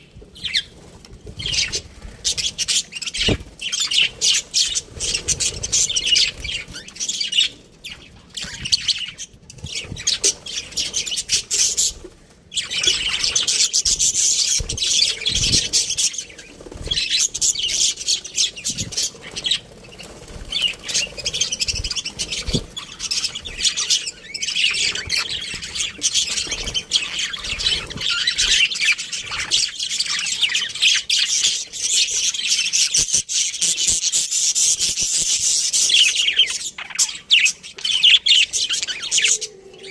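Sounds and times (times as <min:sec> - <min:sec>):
budgerigars chirping and warbling: 0:00.4 - 0:39.9.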